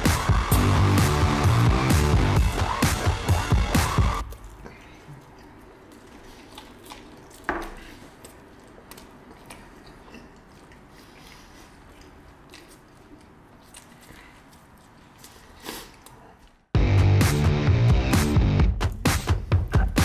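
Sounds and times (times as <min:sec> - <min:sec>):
people chewing food: 0:00.0 - 0:16.8.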